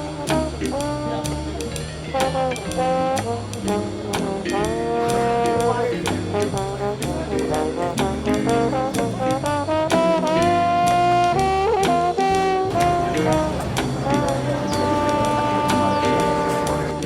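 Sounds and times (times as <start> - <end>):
bass line: 0.0 - 17.0
brass band playing jazz: 0.0 - 17.0
drum beat: 0.0 - 17.0
long held horn notes: 0.0 - 17.0.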